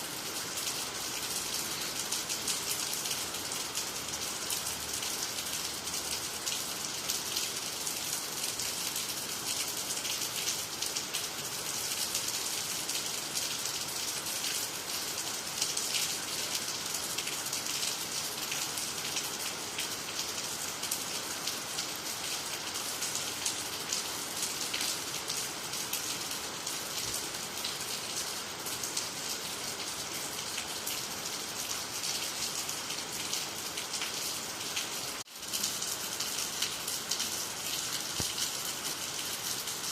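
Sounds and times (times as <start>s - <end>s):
rain falling on water and trees: 0.0s - 39.9s.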